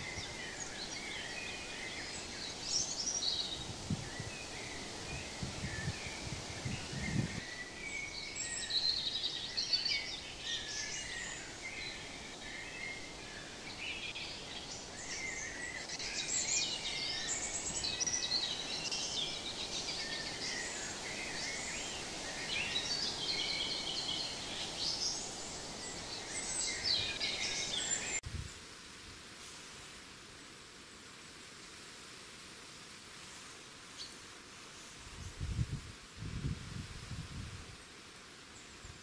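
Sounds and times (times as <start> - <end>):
songbirds chirping and warbling: 0.0 - 28.7, 33.1 - 39.0
outdoor background hiss: 0.0 - 39.0.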